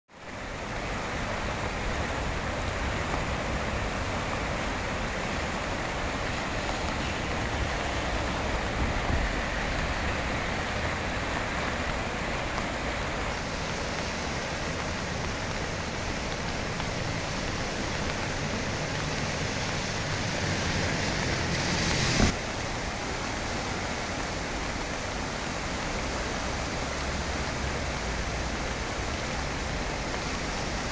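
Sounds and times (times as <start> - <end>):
creek water rushing: 0.1 - 30.9
low rumble of water: 0.1 - 30.9.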